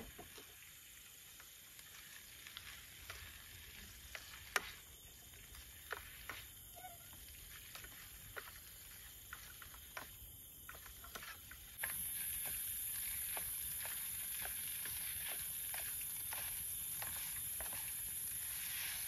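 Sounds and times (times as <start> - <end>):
steady high hiss: 0.0 - 19.0
spatula stirring noodles in pan: 2.6 - 19.0.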